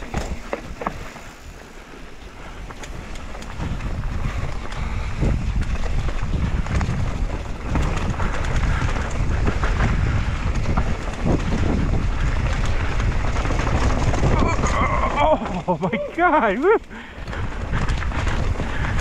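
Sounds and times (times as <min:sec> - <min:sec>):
bike clicks and rattles: 0:00.0 - 0:19.0
wind rumbling on microphone: 0:00.0 - 0:19.0.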